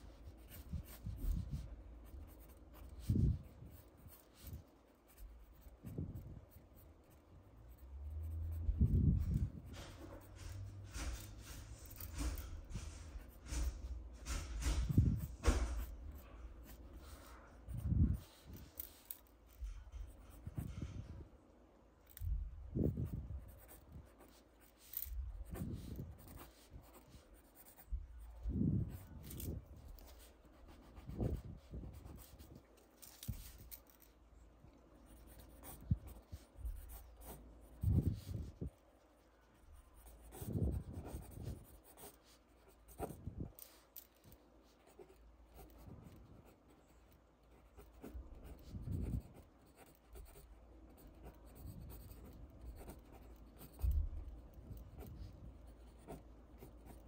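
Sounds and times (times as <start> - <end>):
pencil scratching on paper: 0.0 - 21.1, 22.2 - 34.1, 34.7 - 44.0, 44.6 - 57.0.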